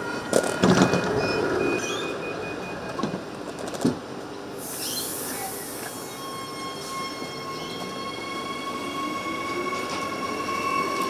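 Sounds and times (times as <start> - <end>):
electric train whine: 0.0 - 11.0.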